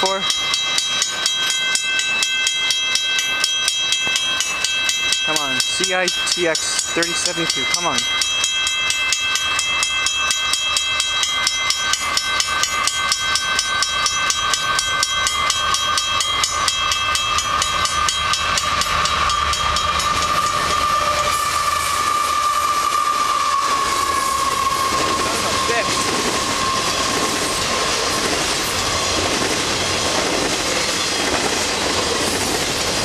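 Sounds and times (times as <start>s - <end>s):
railroad crossing bell ringing: 0.0s - 33.0s.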